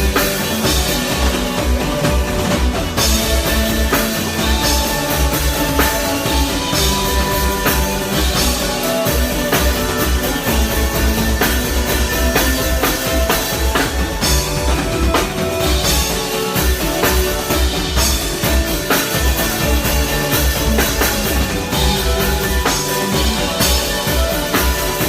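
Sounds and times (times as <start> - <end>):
drum kit beat: 0.0 - 25.0
live band playing: 0.0 - 25.0.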